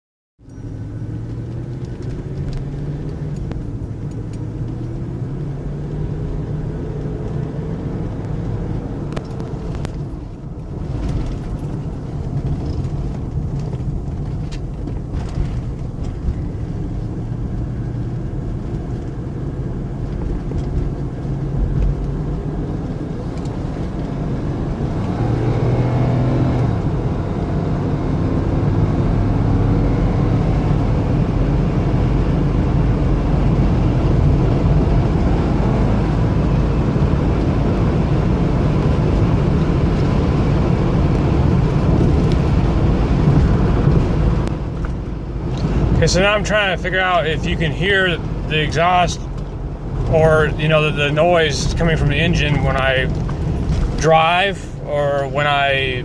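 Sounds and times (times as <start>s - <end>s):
car engine running: 0.4s - 56.0s.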